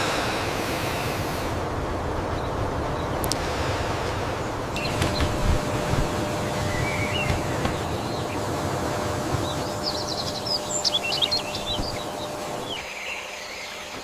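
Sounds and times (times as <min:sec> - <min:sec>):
birds chirping: 0:00.0 - 0:14.0
low rumbling noise: 0:00.0 - 0:14.0.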